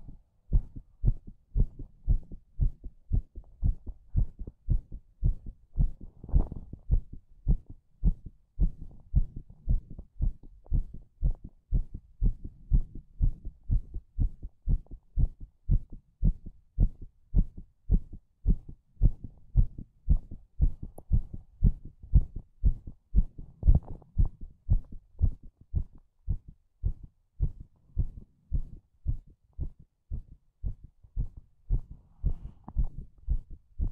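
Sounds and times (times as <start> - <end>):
heartbeat thumps: 0.0 - 33.9.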